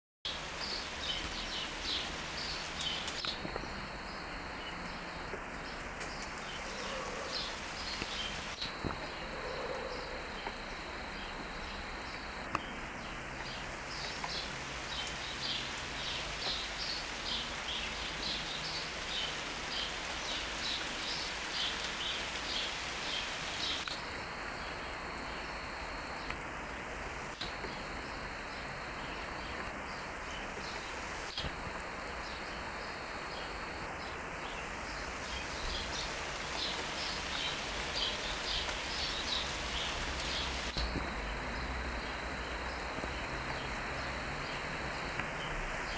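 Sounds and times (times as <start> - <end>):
rain on shrubs and trees: 0.2 - 45.9.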